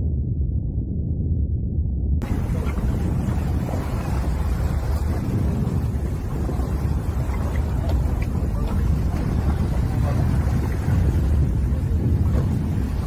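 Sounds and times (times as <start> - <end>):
wind buffeting microphone: 2.2 - 13.0.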